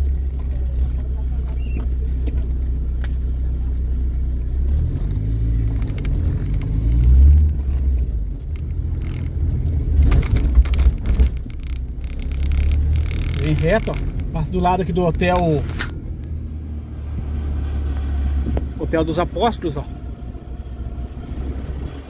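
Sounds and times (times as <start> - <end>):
car engine: 0.0 - 22.0
road rumble: 0.0 - 22.0.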